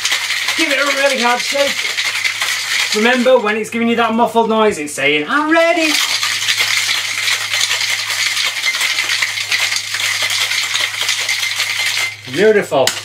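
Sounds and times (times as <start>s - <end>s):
ice rattling in cocktail shaker: 0.0s - 3.7s, 5.5s - 13.0s.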